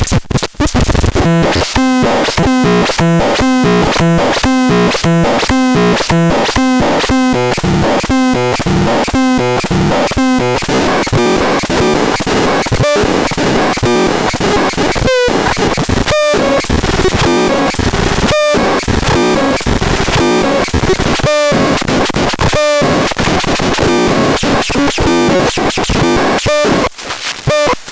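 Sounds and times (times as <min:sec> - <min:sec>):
harsh noisy synthesizer notes: 0:00.6 - 0:26.9.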